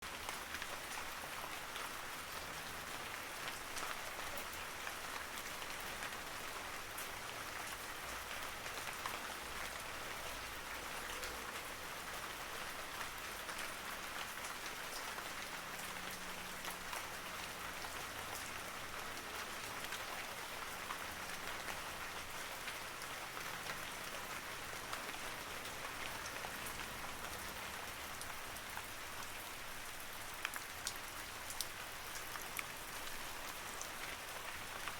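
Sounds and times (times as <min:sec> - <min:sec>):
raindrops ticking on surface: 0:00.0 - 0:34.9
steady rain falling: 0:00.0 - 0:34.9.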